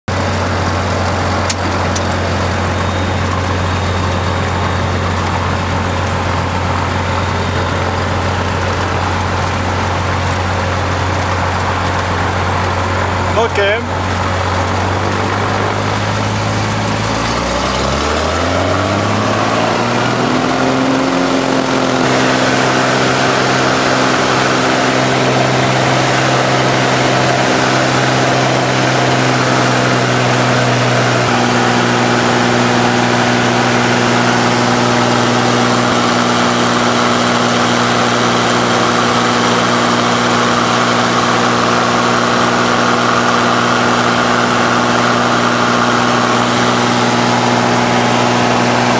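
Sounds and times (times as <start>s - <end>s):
light aircraft engine and propeller: 0.1s - 48.9s.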